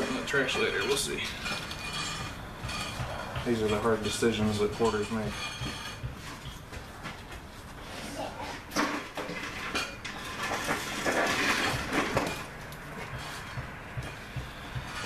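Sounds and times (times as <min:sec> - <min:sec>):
metal parts and tools clattering: 0:00.0 - 0:06.7, 0:08.7 - 0:14.2.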